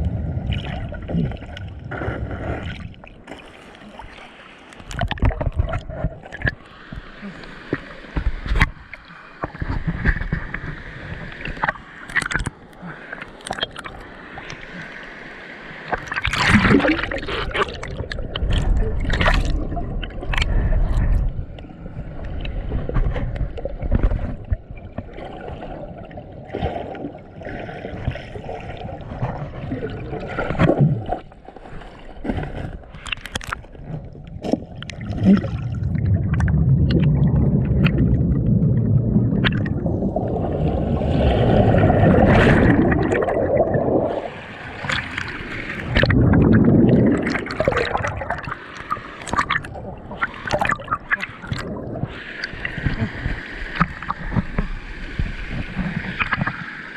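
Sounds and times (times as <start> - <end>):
stream water gurgling: 0.0 - 56.9.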